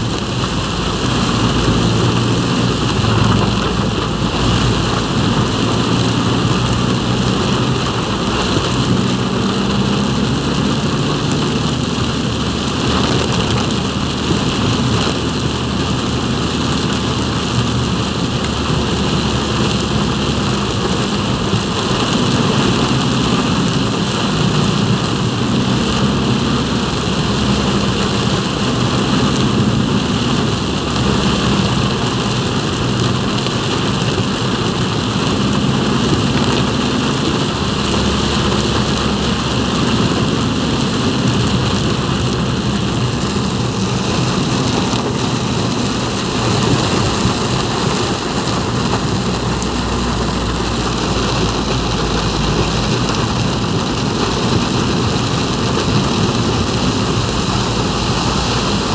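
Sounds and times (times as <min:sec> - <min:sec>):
heavy rain on a vehicle: 0:00.0 - 0:58.9
vehicle rumbling on wet road: 0:00.0 - 0:58.9.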